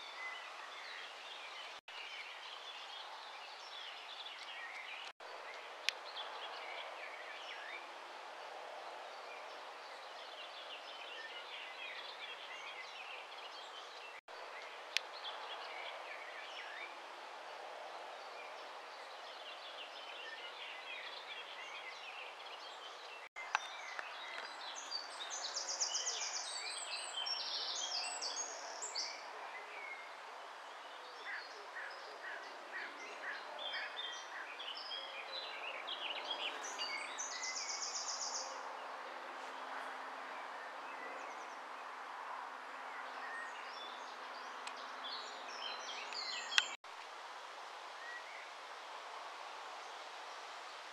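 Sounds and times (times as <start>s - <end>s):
small birds calling and singing: 0.0s - 47.2s
steady background hiss: 0.0s - 50.9s.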